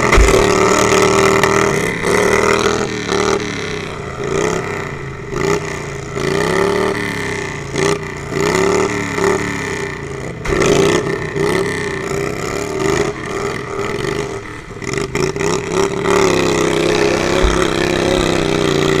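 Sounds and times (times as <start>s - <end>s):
lawnmower engines revving: 0.0s - 19.0s.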